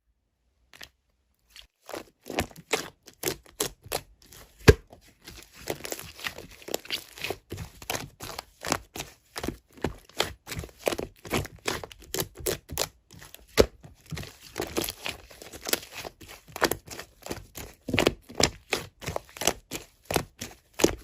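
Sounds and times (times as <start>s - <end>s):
material crinkling and tearing: 1.5s - 21.0s.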